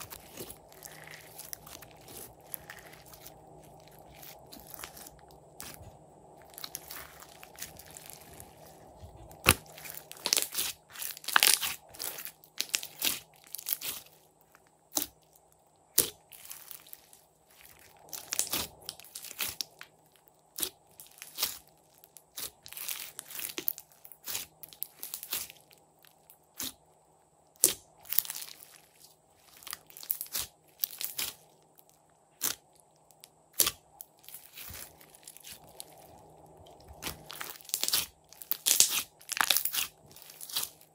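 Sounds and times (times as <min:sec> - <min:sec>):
slime crunching and crackling: 0:00.0 - 0:26.9, 0:27.5 - 0:40.9.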